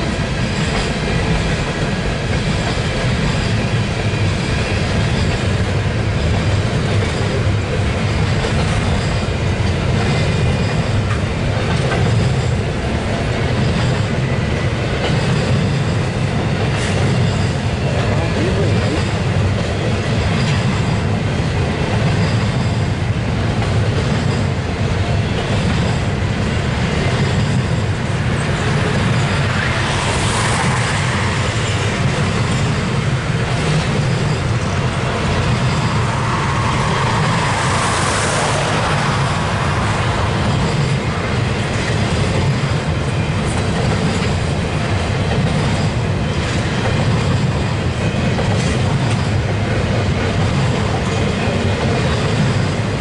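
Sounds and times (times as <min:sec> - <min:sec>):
steel wheels rumbling on rails: 0:00.0 - 0:53.0.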